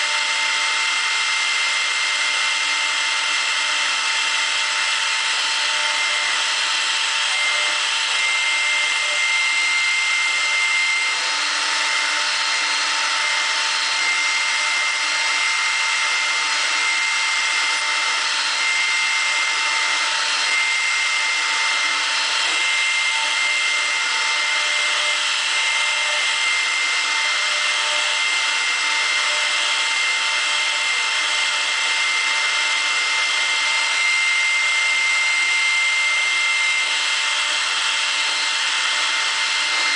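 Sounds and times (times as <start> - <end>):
cutter milling plastic: 0.0 - 39.9
router spindle whine: 0.0 - 39.9.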